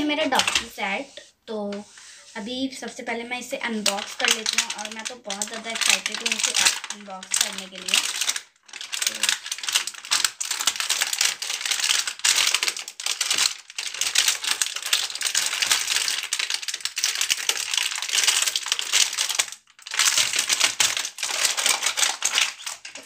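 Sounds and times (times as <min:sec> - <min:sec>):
plastic wrapping crinkling and tearing: 0:00.0 - 0:00.7, 0:03.6 - 0:23.0.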